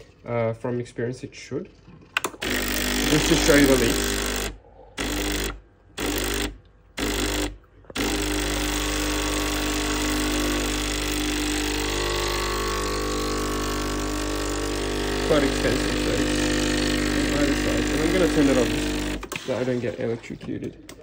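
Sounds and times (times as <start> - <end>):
espresso machine pump buzzing: 2.4 - 19.8.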